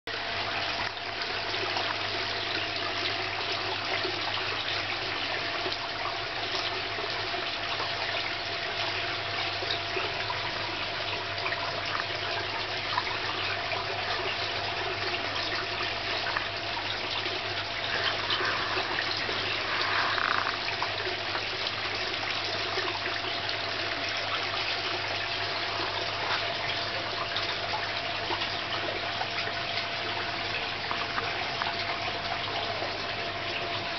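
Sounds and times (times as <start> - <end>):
low steady hum: 0.1 - 33.9
water splashing into pond: 0.1 - 33.9.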